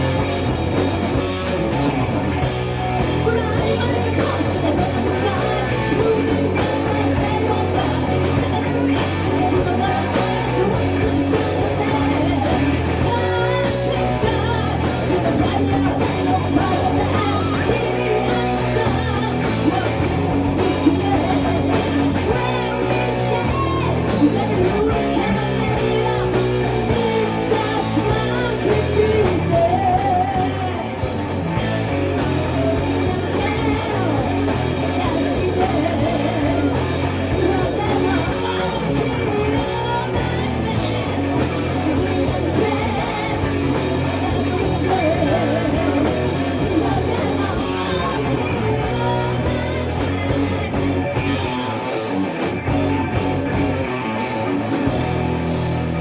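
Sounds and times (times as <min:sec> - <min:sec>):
electric guitar: 0:00.0 - 0:56.0
live rock band playing: 0:00.0 - 0:56.0
lead vocals singing: 0:01.8 - 0:51.8.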